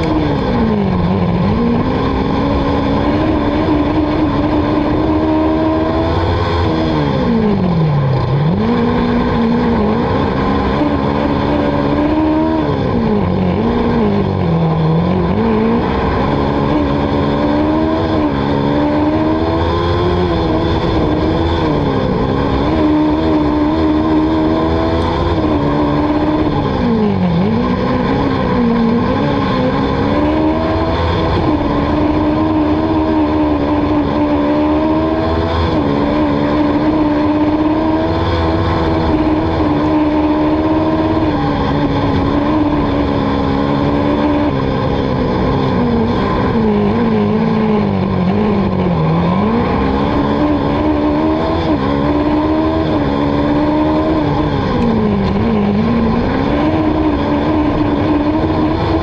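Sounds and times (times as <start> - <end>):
racing car engine revving: 0.0 - 59.0.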